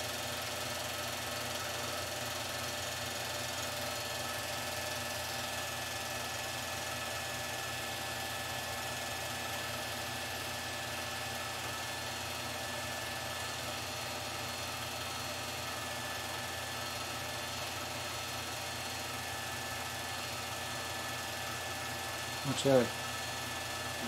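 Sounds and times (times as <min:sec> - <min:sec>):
film projector running: 0:00.0 - 0:24.0.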